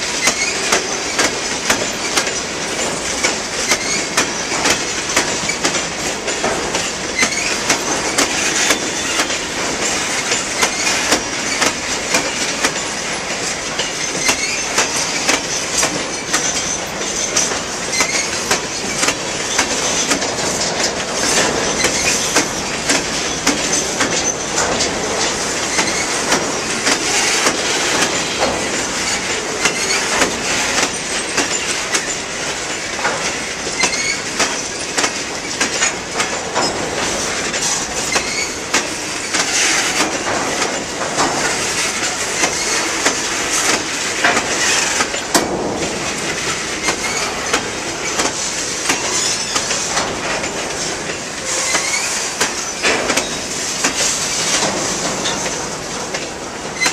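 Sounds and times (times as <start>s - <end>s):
train wheels clattering over rail joints: 0.0s - 56.9s.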